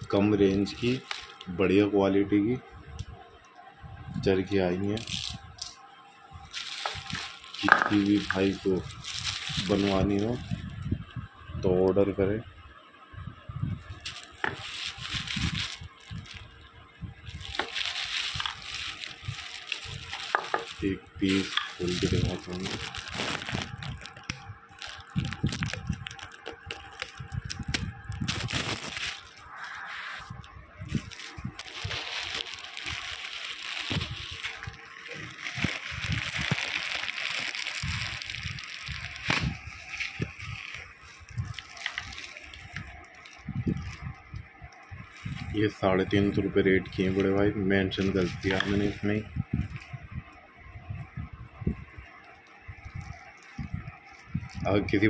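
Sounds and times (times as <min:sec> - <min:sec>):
plastic bag crinkling: 0:00.0 - 0:01.6, 0:04.9 - 0:05.4, 0:06.5 - 0:10.8, 0:13.9 - 0:16.6, 0:17.2 - 0:49.9, 0:52.0 - 0:54.9.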